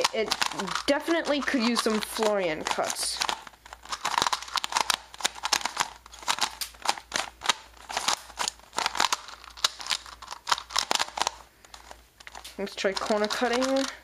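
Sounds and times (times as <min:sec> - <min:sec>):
puzzle cube clicking and scraping: 0:00.0 - 0:14.0.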